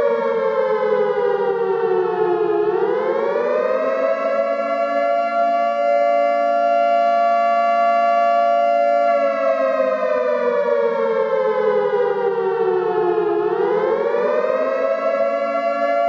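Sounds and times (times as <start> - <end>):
siren wailing: 0.0 - 16.0.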